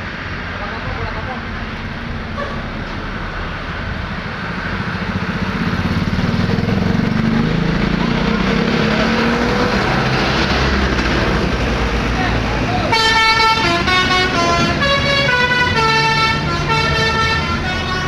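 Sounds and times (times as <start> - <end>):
heavy diesel engine approaching: 0.0 - 18.0
road traffic: 0.0 - 18.0.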